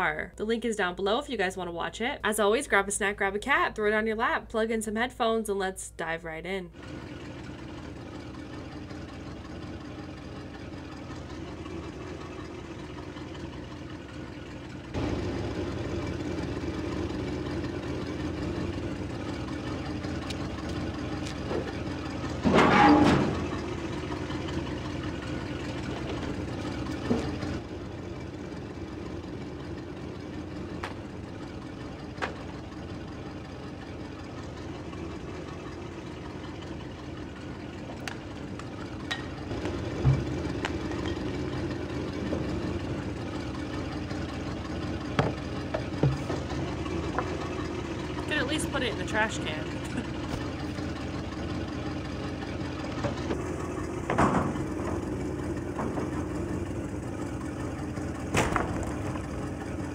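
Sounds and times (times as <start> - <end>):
truck engine idling: 6.7 - 59.9.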